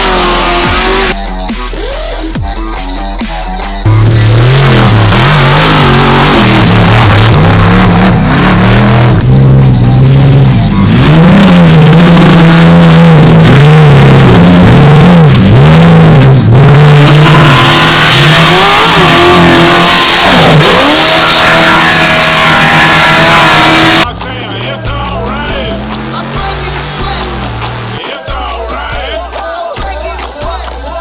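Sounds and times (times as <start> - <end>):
truck engines revving: 0.0 - 28.1.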